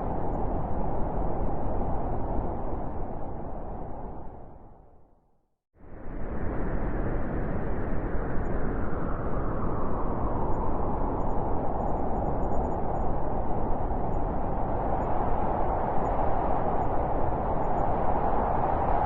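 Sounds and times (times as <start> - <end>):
blizzard wind: 0.0 - 5.2, 5.8 - 19.0.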